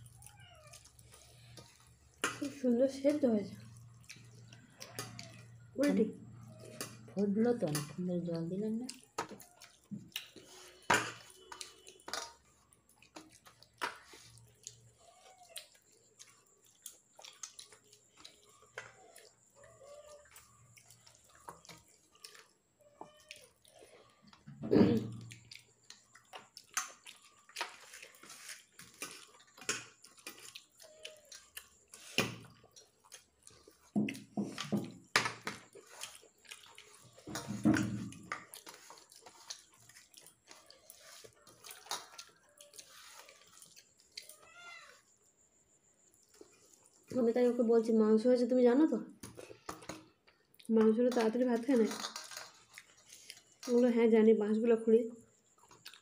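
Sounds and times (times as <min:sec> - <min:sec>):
fingers squishing food on plate: 0:00.0 - 0:45.0
chewing and mouth sounds: 0:00.0 - 0:45.1, 0:46.0 - 0:47.2, 0:49.2 - 0:54.0, 0:55.2 - 0:56.0.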